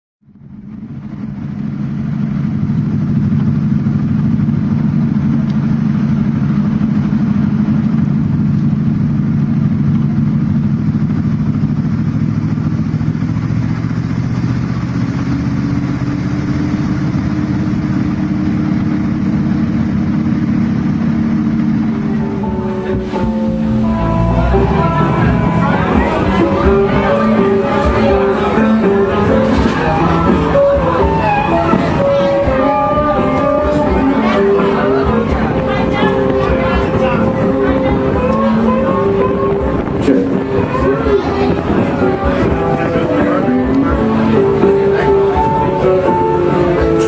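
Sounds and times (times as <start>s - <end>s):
boat engines humming: 0.3s - 47.0s.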